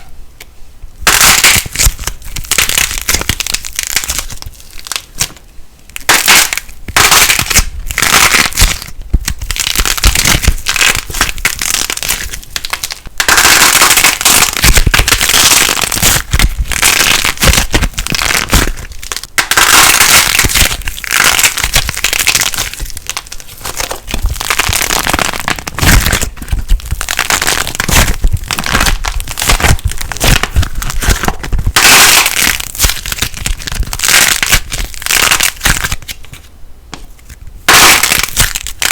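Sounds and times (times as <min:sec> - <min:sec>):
modelling clay crackling: 0:01.1 - 0:38.9.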